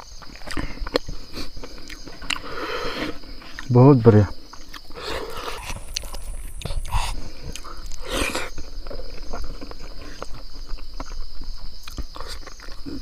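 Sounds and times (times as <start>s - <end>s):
chewing with clicks: 0.0s - 2.5s, 3.1s - 3.7s, 4.5s - 13.0s
high-pitched insect drone: 0.0s - 13.0s.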